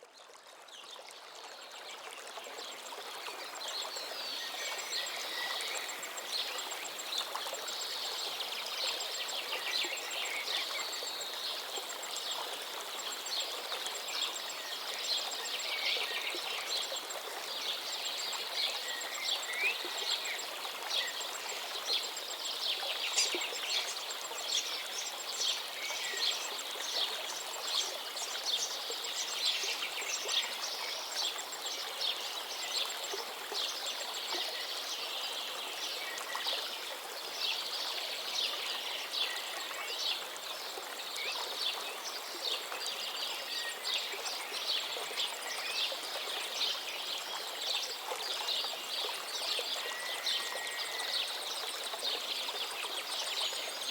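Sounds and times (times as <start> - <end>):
stream water running: 0.0 - 53.9.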